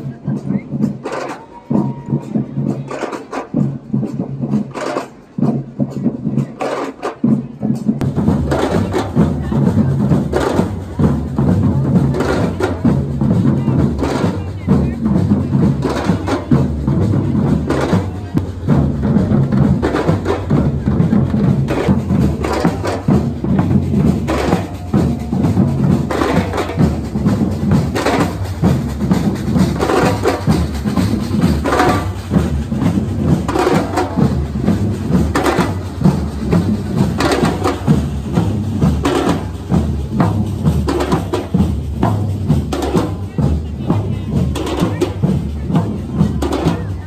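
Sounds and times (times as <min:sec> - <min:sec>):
street drum band playing: 0:00.0 - 0:47.0.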